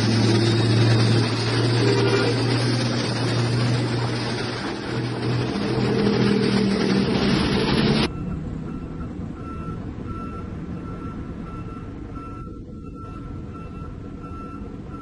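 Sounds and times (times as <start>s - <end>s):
diesel truck engine running: 0.0s - 15.0s
heavy truck and traffic passing: 0.0s - 15.0s
reversing alarm beeping: 0.0s - 15.0s.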